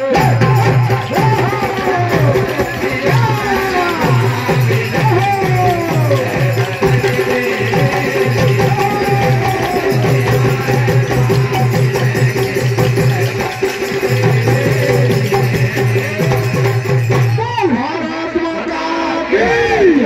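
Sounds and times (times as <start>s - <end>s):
drums and small percussion: 0.0s - 18.6s.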